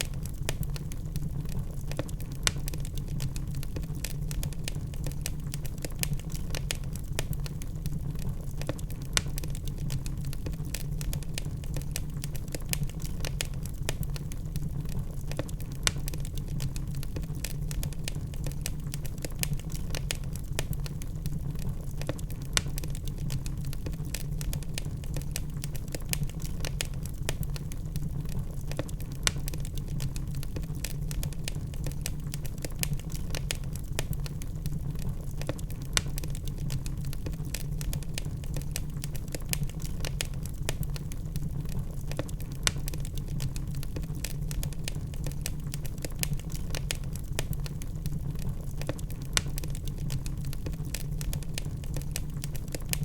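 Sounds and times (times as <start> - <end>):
log fire crackling: 0.0 - 53.0
low rumble of burning fire: 0.0 - 53.0.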